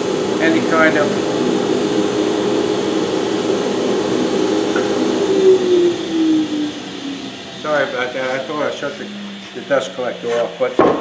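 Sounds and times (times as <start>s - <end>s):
motor winding down: 0.0s - 10.7s
motors humming: 0.0s - 11.0s.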